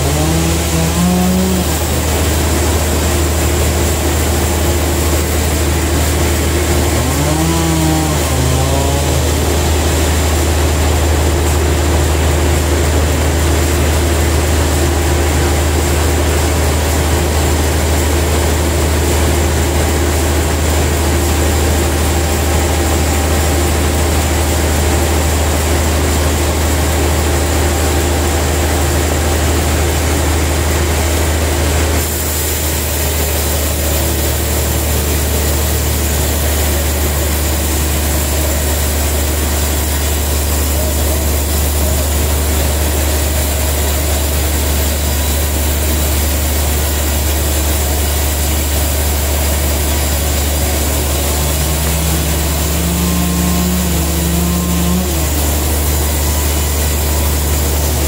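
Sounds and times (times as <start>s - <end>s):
band sawmill cutting log: 0.0s - 58.0s
low motor hum: 0.0s - 58.0s.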